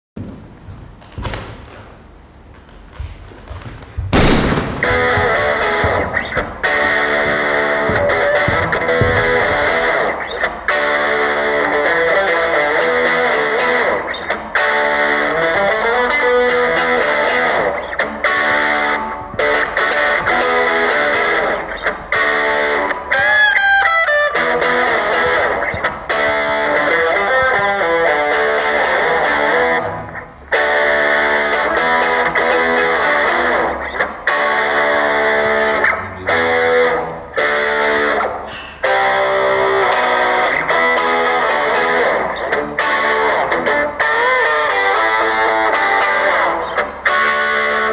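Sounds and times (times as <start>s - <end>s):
electric guitar music: 4.2s - 47.9s.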